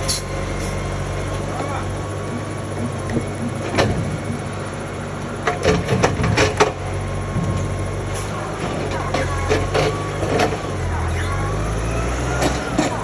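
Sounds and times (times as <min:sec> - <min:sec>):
machine engine running: 0:00.0 - 0:13.0.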